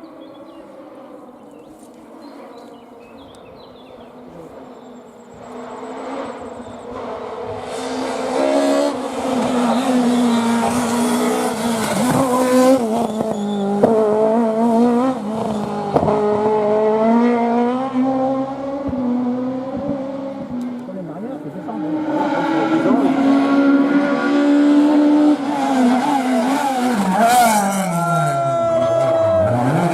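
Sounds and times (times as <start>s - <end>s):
rally car engine revving: 2.2s - 29.9s.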